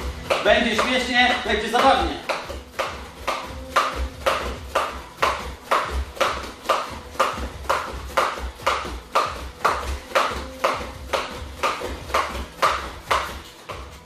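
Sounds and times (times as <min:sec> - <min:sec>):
skipping rope slapping mat: 0:00.0 - 0:14.0
bare feet landing on mat: 0:00.2 - 0:14.0.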